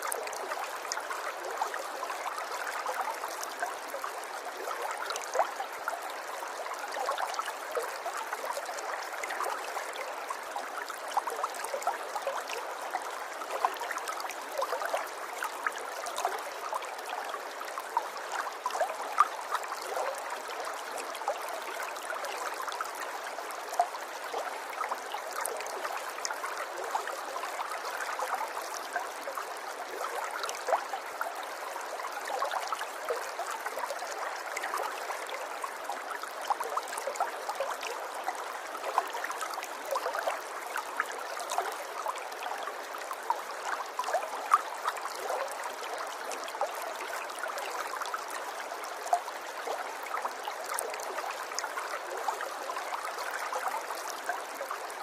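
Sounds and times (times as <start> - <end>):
river babbling over stones: 0.0 - 55.0.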